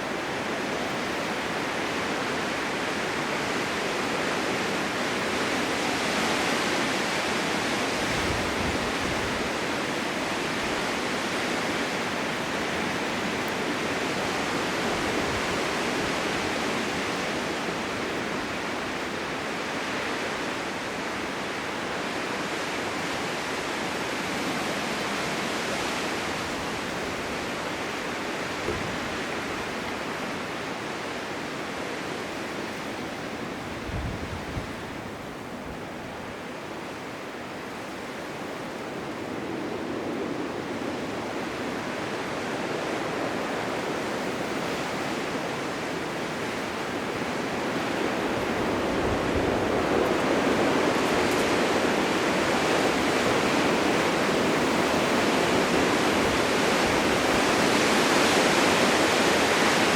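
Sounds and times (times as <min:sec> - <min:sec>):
blizzard wind rushing: 0:00.0 - 0:59.9.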